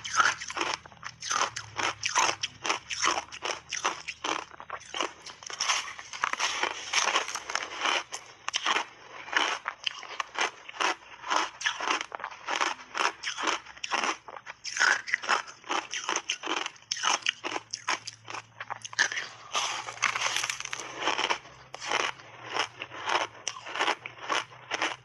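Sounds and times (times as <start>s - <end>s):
ice crunching while chewed: 0.0s - 25.0s.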